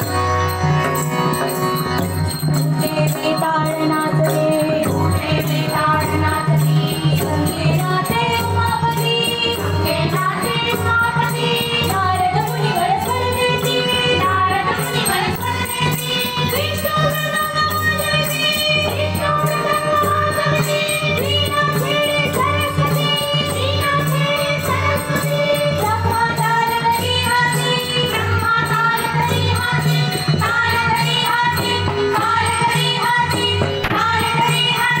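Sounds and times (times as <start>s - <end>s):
harmonium: 0.0s - 35.0s
small hand cymbals: 0.0s - 35.0s
tabla: 0.0s - 35.0s
women singing together: 2.6s - 35.0s.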